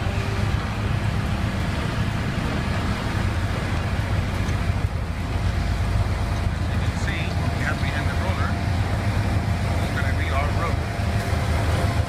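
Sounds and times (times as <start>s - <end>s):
road roller diesel engine humming: 0.0s - 12.0s.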